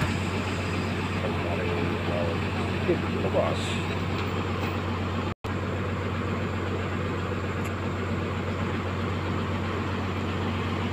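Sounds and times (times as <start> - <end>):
excavator diesel engine running: 0.0 - 10.9.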